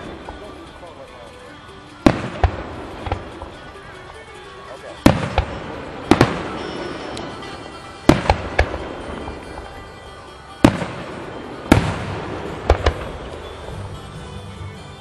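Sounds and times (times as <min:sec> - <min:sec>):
firework shells bursting: 0:00.0 - 0:14.1.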